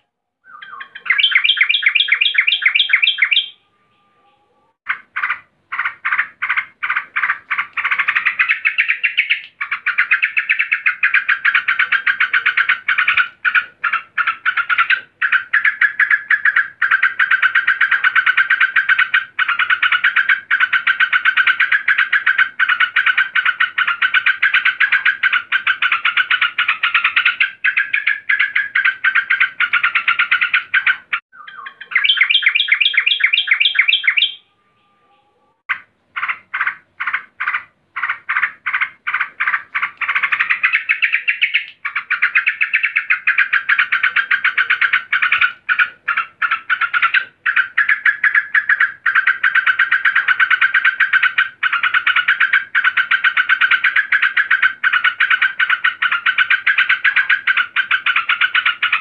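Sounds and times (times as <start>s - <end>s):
bird chattering call: 0.5s - 3.6s, 4.2s - 34.4s, 35.0s - 59.0s.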